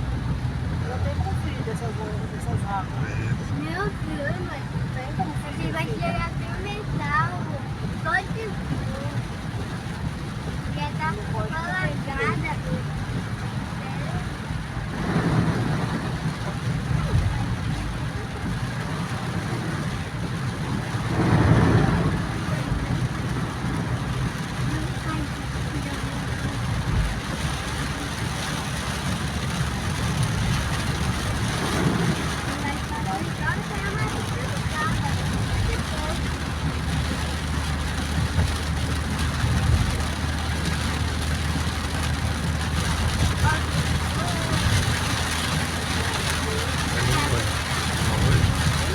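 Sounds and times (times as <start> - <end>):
car engine drone: 0.0 - 48.9
rain: 0.0 - 48.9
wet tyre road noise: 0.0 - 48.9.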